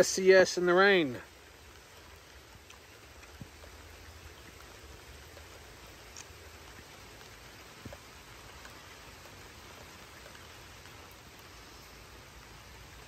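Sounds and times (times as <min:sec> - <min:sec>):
light rain hissing: 0:00.0 - 0:13.0
raindrops tapping: 0:00.0 - 0:13.0.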